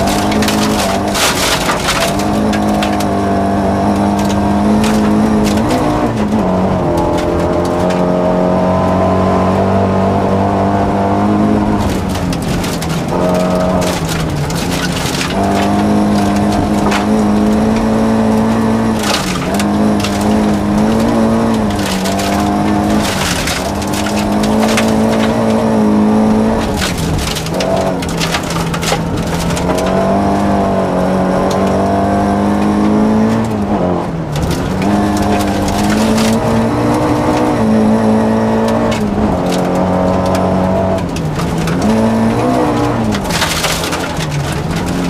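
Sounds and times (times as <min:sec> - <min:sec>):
gravel clattering on underbody: 0:00.0 - 0:45.0
rally car engine revving: 0:00.0 - 0:45.0.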